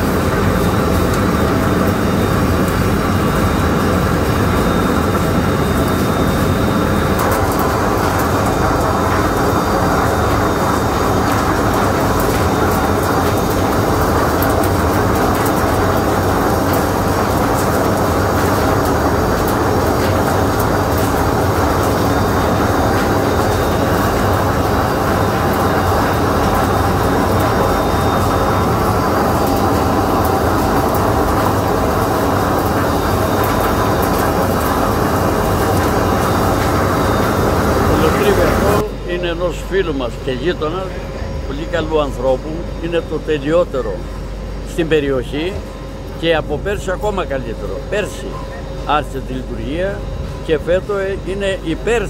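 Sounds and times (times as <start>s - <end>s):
mill machinery running: 0.0s - 52.0s.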